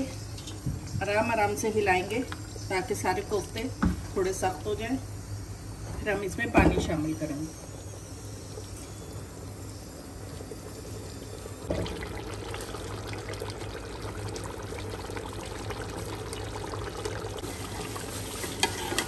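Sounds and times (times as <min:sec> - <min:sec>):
curry sizzling and bubbling: 0:00.0 - 0:19.0
low steady hum: 0:00.0 - 0:19.0.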